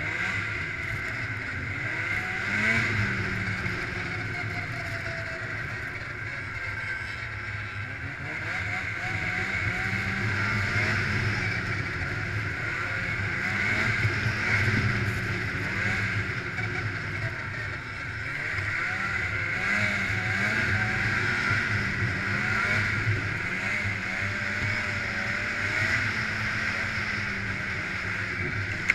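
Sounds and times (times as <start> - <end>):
rush of track and wind: 0.0 - 28.9
snowmobile engine revving: 0.0 - 28.9.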